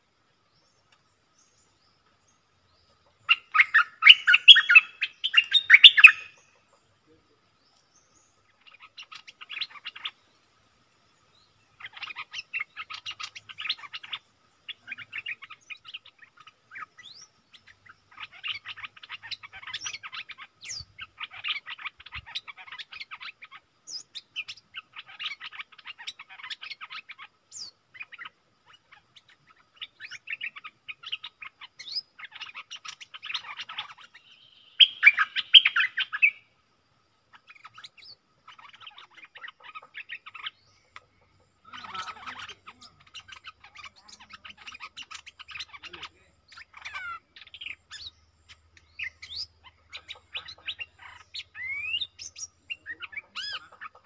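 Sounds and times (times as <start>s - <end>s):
bulbuls chattering calls: 2.8s - 10.3s, 11.5s - 36.5s, 37.3s - 54.0s.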